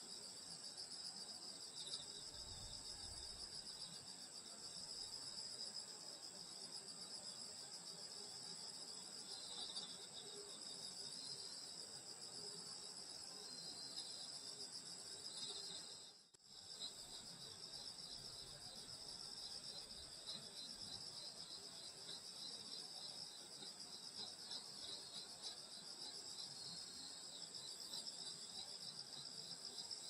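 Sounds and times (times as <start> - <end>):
crickets and insects chirring: 0.0 - 30.0.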